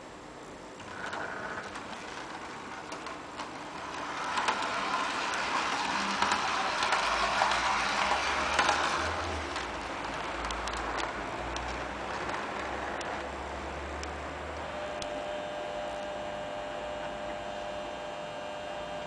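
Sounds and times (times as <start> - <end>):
electric motor and gear whir: 0.8 - 19.0.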